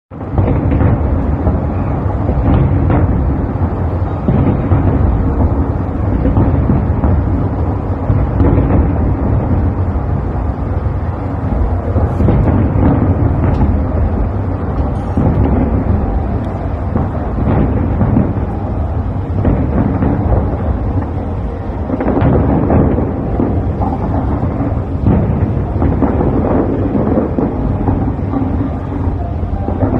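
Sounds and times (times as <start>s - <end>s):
fireworks shell bursts rumbling: 0.1s - 29.9s
sharp fireworks bangs: 0.1s - 29.9s.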